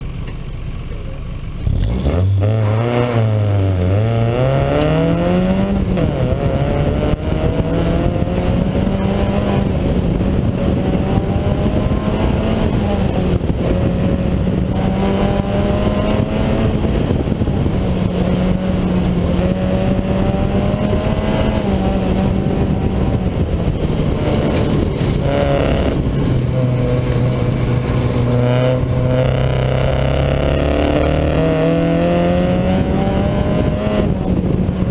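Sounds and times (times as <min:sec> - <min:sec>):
car engine revving: 0:01.0 - 0:34.9.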